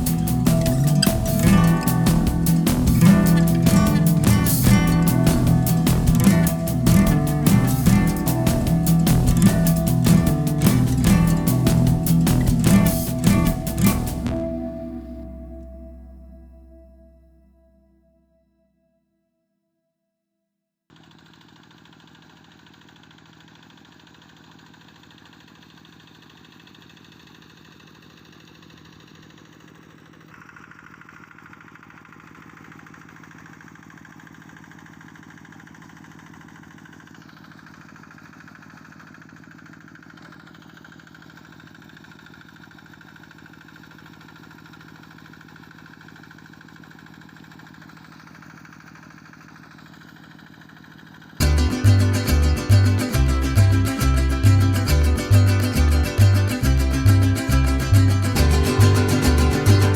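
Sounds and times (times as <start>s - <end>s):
diesel tractor engine running: 0.0s - 17.2s, 21.0s - 44.8s, 45.4s - 59.9s.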